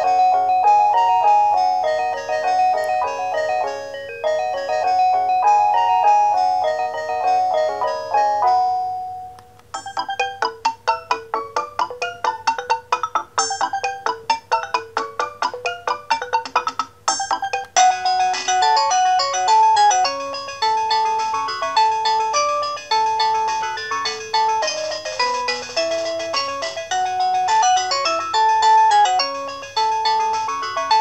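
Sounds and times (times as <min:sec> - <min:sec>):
electronic phone ringtone: 0:00.0 - 0:31.0.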